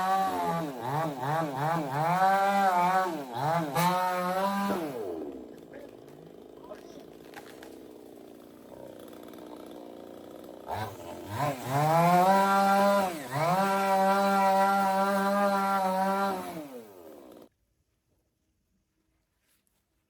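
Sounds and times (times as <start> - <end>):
chainsaw engine revving: 0.0 - 17.5.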